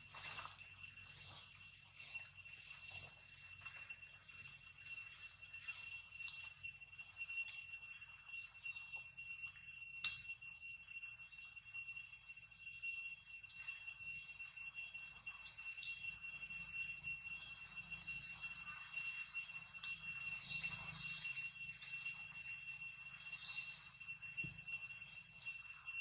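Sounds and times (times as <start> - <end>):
high-pitched insect trill: 0.0 - 26.0.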